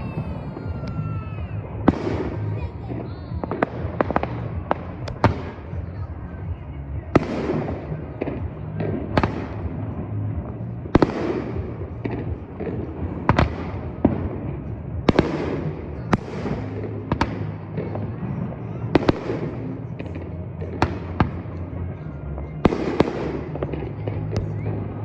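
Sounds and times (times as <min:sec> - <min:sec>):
fireworks bangs: 0:00.0 - 0:25.0
fireworks crackling: 0:00.0 - 0:25.0
low rumble: 0:00.0 - 0:25.0.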